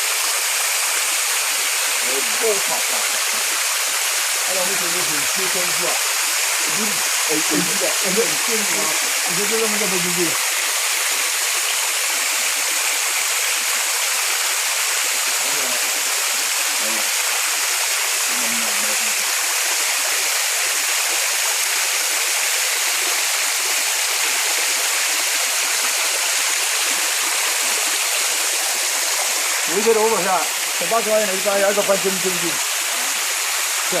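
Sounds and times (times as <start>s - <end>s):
waterfall hissing: 0.0s - 34.0s.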